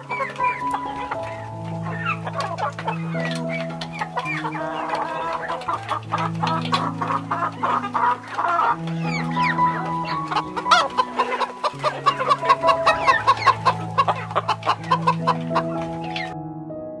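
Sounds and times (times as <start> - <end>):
chickens clucking: 0.0 - 16.4
low held background music: 0.0 - 17.0
beaks pecking on concrete: 0.1 - 16.2.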